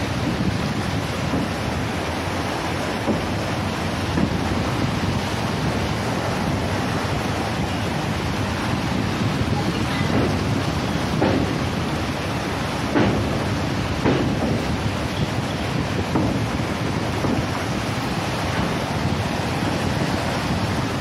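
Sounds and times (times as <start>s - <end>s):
surf churning: 0.0s - 21.0s
wind buffeting microphone: 0.0s - 21.0s.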